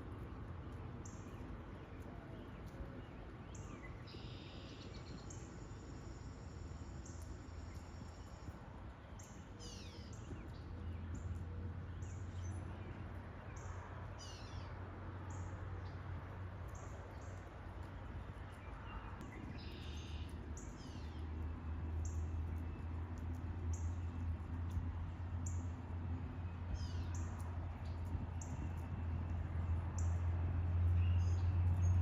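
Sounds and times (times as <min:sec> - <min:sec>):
small birds chirping: 0:00.0 - 0:32.0
steady low hum: 0:00.0 - 0:32.0.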